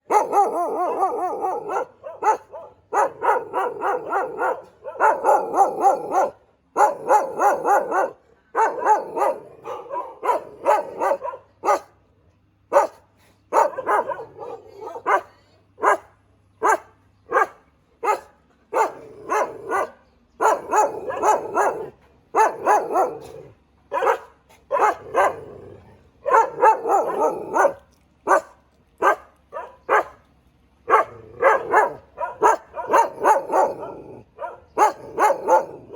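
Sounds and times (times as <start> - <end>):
dog barking rapidly: 0.0 - 12.0, 12.7 - 25.5, 26.2 - 30.2, 30.9 - 35.9.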